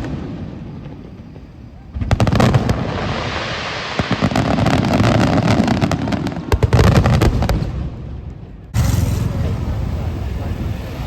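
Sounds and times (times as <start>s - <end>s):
fireworks crackling and popping: 0.0s - 11.0s
loud fireworks bangs: 0.0s - 11.0s
low fireworks booms: 0.0s - 11.0s.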